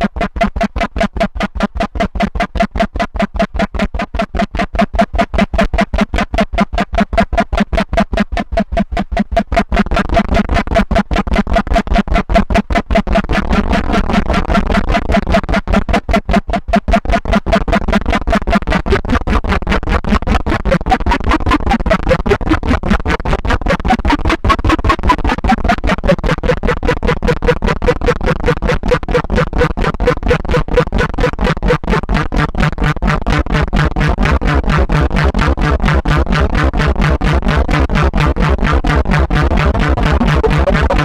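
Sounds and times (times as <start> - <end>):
synthesizer pulsed notes with chorus: 0.0 - 41.0.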